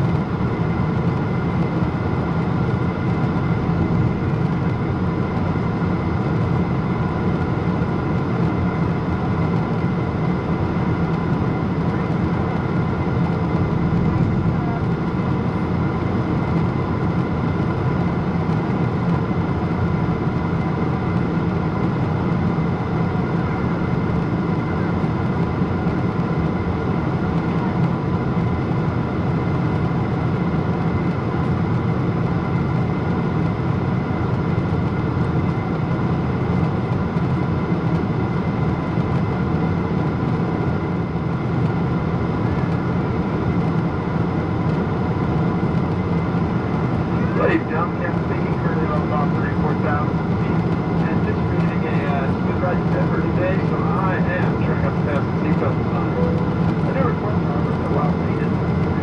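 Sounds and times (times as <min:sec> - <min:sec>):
aircraft cabin engine and airflow rush: 0:00.0 - 0:59.0.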